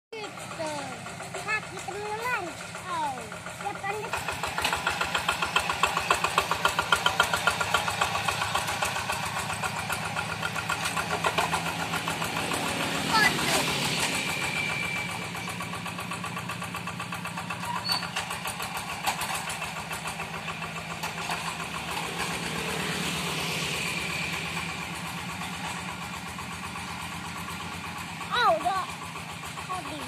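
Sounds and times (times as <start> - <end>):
diesel engine chugging: 0.1 - 30.0.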